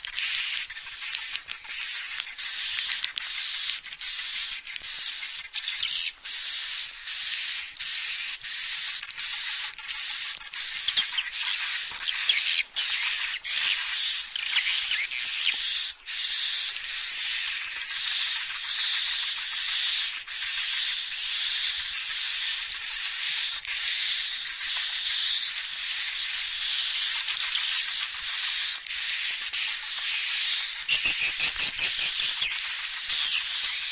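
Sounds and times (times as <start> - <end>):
swiftlet chirps and twitters: 0.0 - 33.9.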